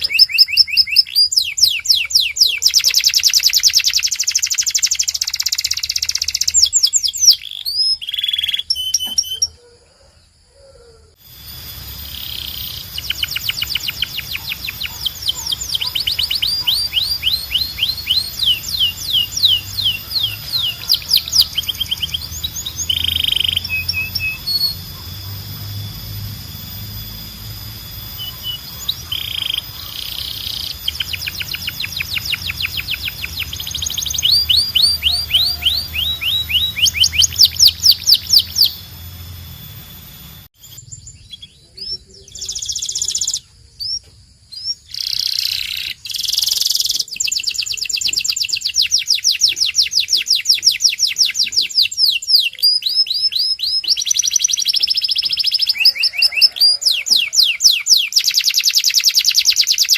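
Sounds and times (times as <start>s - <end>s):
canary singing trills: 0.0s - 9.8s, 10.6s - 59.9s.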